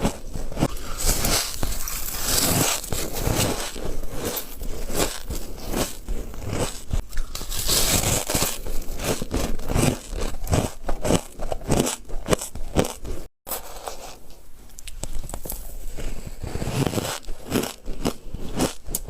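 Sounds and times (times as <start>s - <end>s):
ice being chewed: 0.0s - 14.0s, 14.7s - 19.0s.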